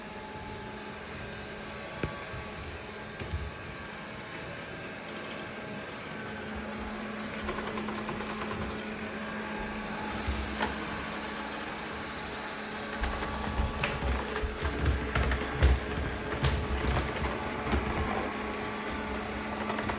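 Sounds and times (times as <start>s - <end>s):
robot vacuum cleaner humming: 0.0s - 19.9s.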